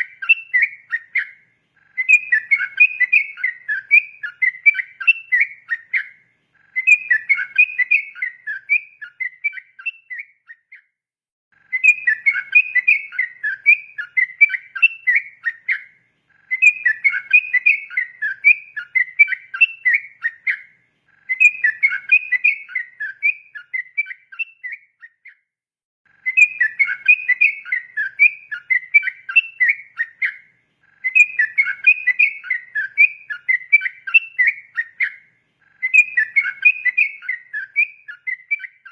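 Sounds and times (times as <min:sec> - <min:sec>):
bird singing whistled notes: 0:00.0 - 0:11.0, 0:11.6 - 0:25.5, 0:26.1 - 0:38.9.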